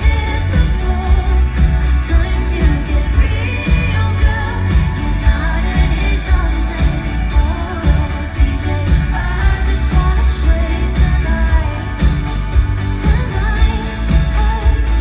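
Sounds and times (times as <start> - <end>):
live pop band: 0.0 - 15.0
woman singing: 0.0 - 15.0.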